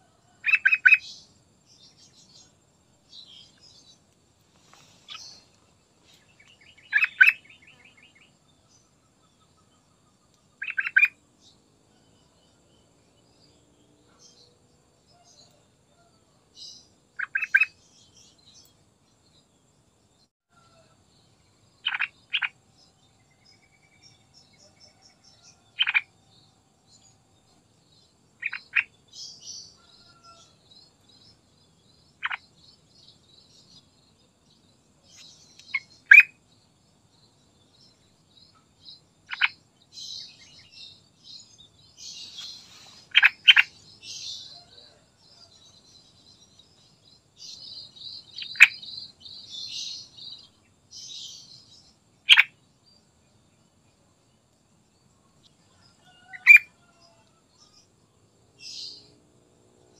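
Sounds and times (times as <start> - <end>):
faint high chirping: 0.0 - 53.1.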